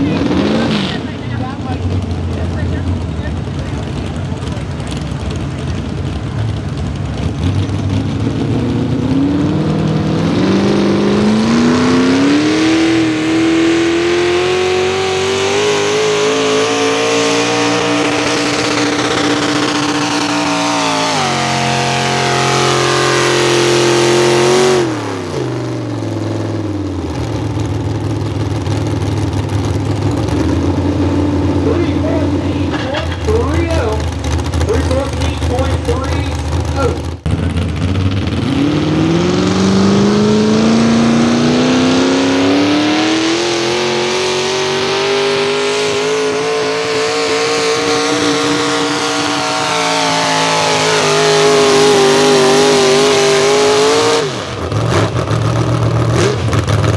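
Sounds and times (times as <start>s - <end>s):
tractor engine at full throttle: 0.0s - 56.9s.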